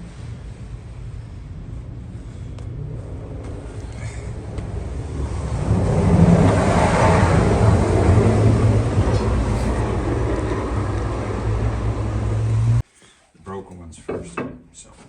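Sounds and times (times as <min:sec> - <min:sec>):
shop machine humming: 0:00.0 - 0:12.8.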